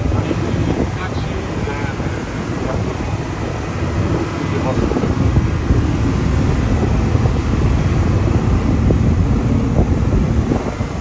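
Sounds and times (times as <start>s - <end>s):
truck engine rumble: 0.0s - 11.0s
wind buffeting microphone: 0.0s - 11.0s.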